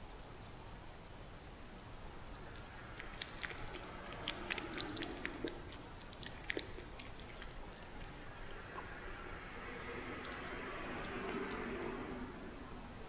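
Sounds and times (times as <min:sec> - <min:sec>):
kitten eating wet clicks: 0:01.8 - 0:12.6.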